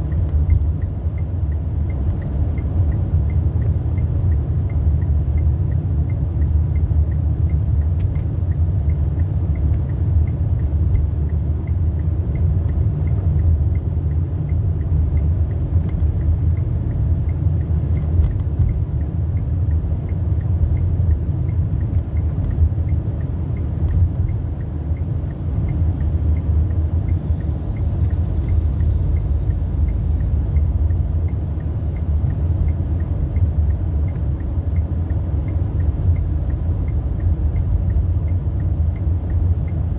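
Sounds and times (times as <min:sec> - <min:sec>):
road and engine rumble in car: 0:00.0 - 0:39.9.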